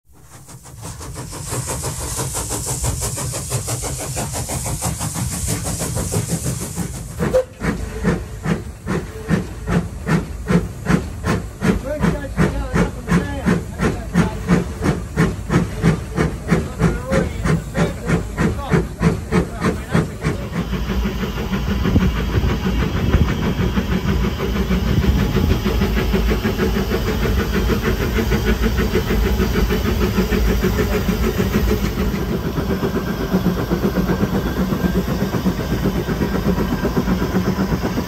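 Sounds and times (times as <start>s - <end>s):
steam hiss: 0.1s - 38.0s
steam locomotive chuffing: 0.1s - 38.0s.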